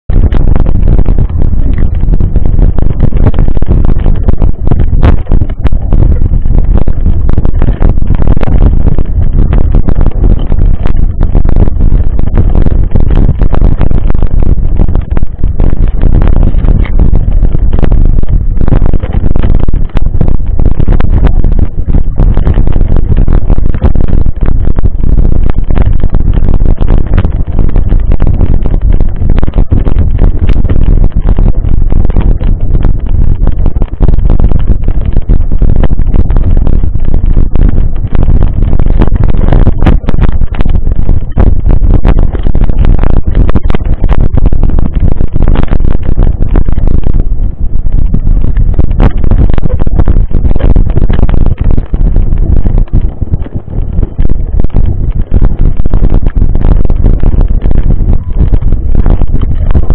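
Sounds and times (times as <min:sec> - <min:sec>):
wind and vibration rumble: 0:00.0 - 0:59.9.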